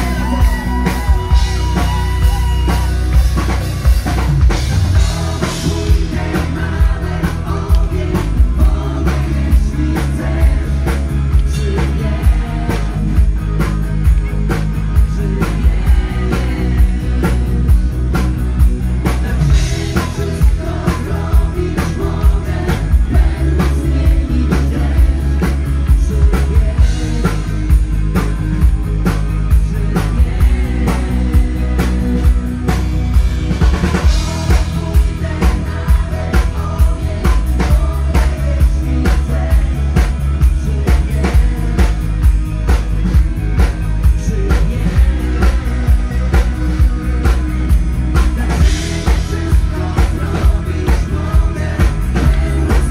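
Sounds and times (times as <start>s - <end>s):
person singing: 0.0s - 3.6s, 5.0s - 18.2s, 19.0s - 32.8s, 33.7s - 42.8s, 44.0s - 52.9s
bass guitar: 0.0s - 52.9s
drum kit beat: 0.0s - 52.9s
electric guitars: 0.0s - 52.9s.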